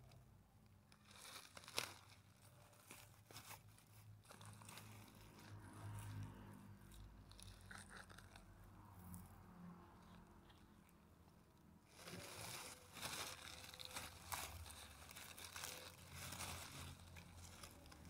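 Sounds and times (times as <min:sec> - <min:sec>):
dry litter crackling and tearing: 0:00.9 - 0:11.0, 0:11.8 - 0:18.0.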